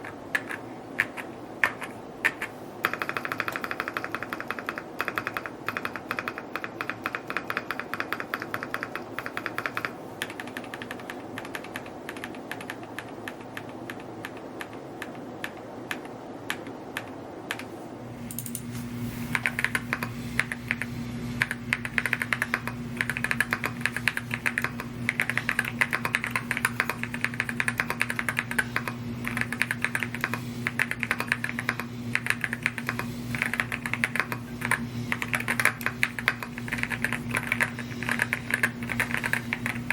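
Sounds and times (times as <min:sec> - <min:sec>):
fast mechanical keyboard typing: 0:00.0 - 0:17.7, 0:19.3 - 0:39.9
steady low hum: 0:00.0 - 0:39.9.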